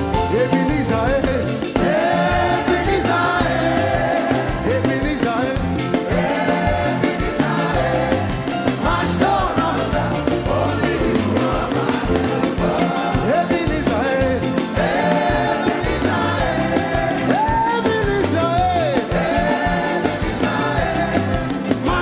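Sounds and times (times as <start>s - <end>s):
gospel band playing: 0.0s - 22.0s
voices singing: 0.3s - 22.0s.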